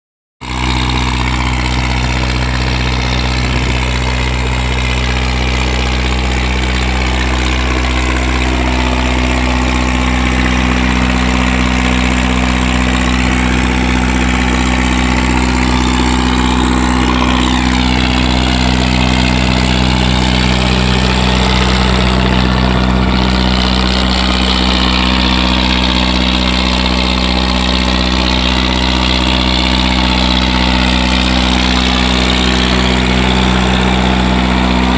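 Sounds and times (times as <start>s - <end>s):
vehicle engine idling: 0.4s - 34.9s.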